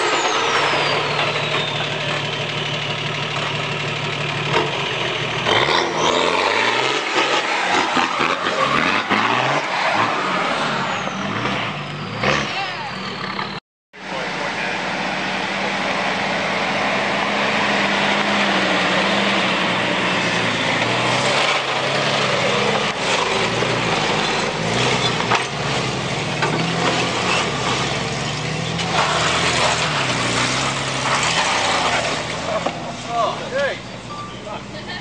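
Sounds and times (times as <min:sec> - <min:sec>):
vehicle engine revving under load: 0:03.9 - 0:34.0.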